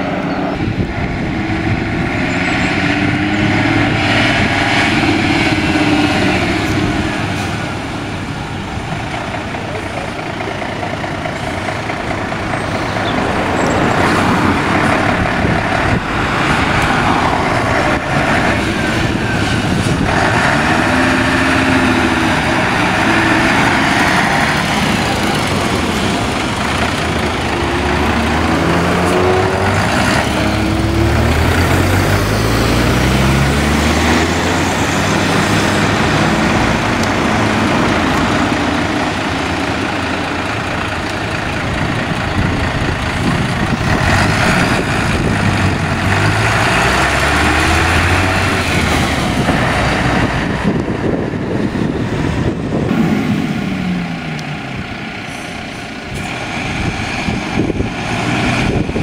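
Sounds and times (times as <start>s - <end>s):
diesel engine speeding up: 0.0s - 59.0s
fire engines driving past: 0.0s - 59.0s.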